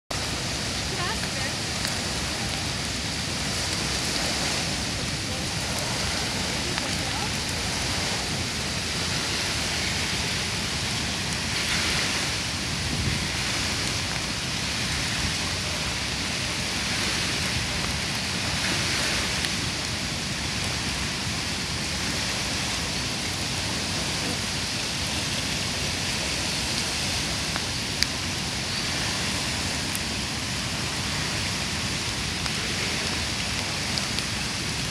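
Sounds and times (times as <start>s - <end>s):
river water rushing over weir: 0.1s - 34.9s.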